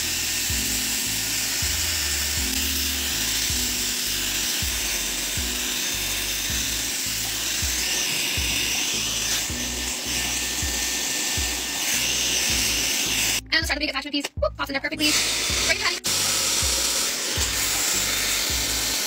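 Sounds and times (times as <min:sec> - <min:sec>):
hair dryer blowing air: 0:00.0 - 0:13.4, 0:15.0 - 0:19.0.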